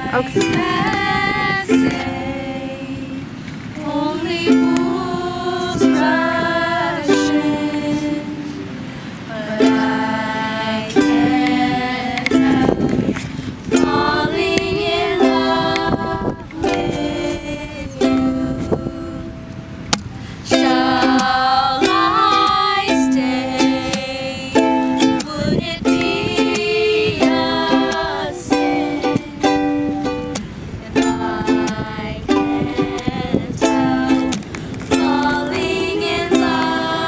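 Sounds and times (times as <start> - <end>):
ukulele strumming: 0.0 - 37.0.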